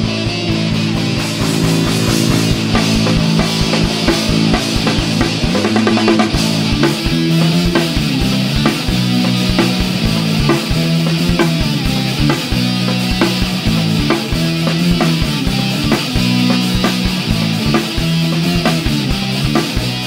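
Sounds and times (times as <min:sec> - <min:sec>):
heavy metal music: 0:00.0 - 0:20.0.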